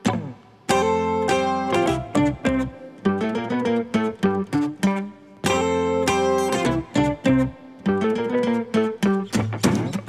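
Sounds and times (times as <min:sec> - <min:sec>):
plucked guitar notes: 0:00.0 - 0:10.0.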